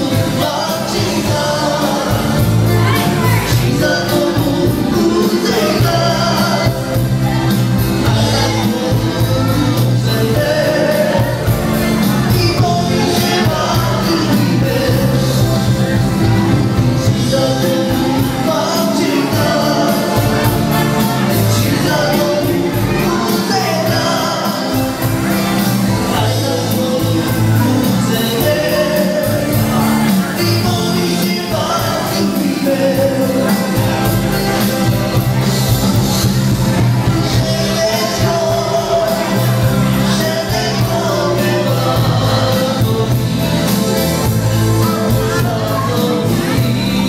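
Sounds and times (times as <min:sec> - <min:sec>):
band playing dance music: 0:00.0 - 0:47.0
person singing: 0:00.0 - 0:47.0.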